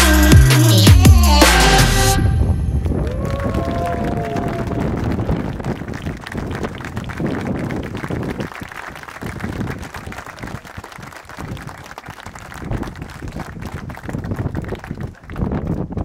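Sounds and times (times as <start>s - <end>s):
crowd applauding: 2.8s - 16.0s.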